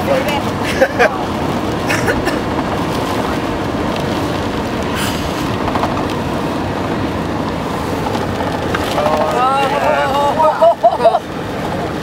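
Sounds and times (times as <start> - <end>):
tyre and road noise: 0.0 - 12.0
wind noise: 0.0 - 12.0.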